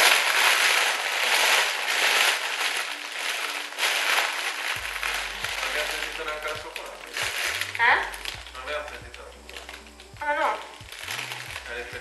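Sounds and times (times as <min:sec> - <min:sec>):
foil wrapping crinkling and tearing: 0:00.0 - 0:12.0.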